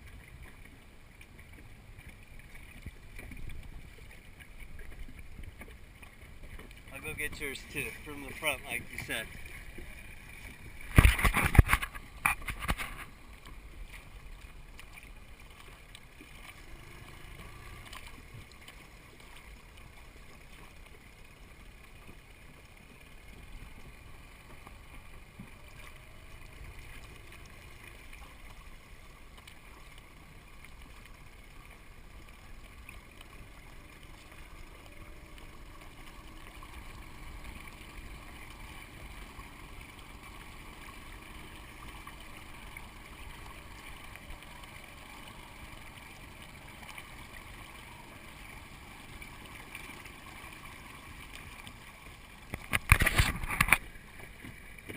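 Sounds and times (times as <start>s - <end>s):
water lapping along a hull: 0.0s - 54.9s.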